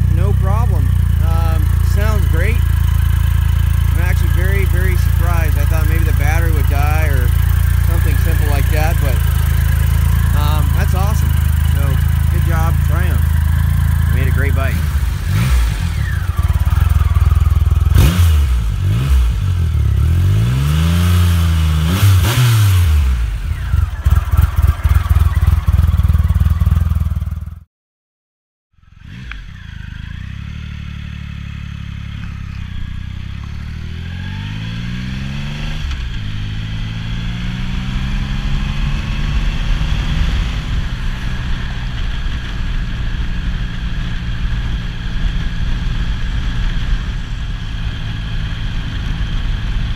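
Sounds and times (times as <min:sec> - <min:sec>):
motorcycle engine revving: 0:00.0 - 0:27.7, 0:28.8 - 0:49.9.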